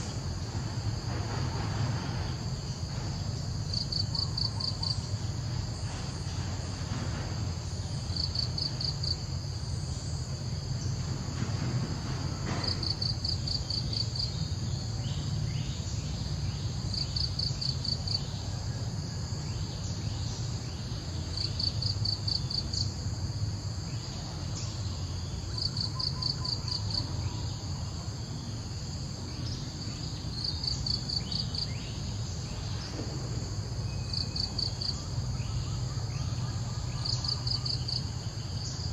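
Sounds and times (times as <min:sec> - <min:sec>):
insects droning: 0:00.0 - 0:38.9
rapid pulsed insect trill: 0:00.0 - 0:38.9.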